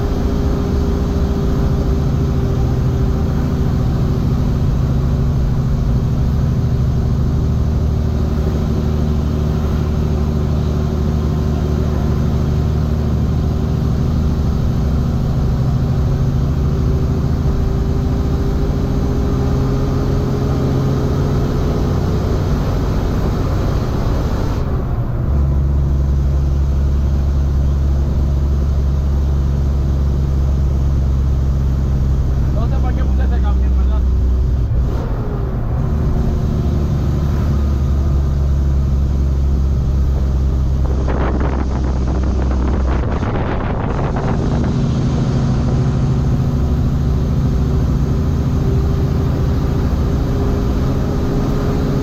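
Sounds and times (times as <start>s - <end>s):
road noise: 0.0s - 52.0s
truck engine driving: 0.0s - 52.0s.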